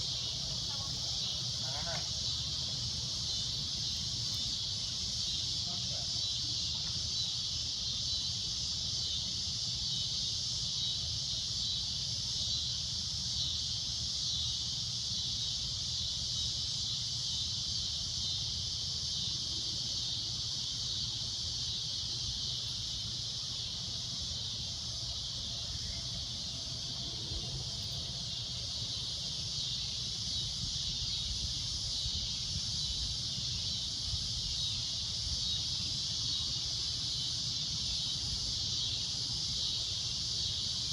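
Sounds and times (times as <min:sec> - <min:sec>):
cicadas droning: 0:00.0 - 0:40.9.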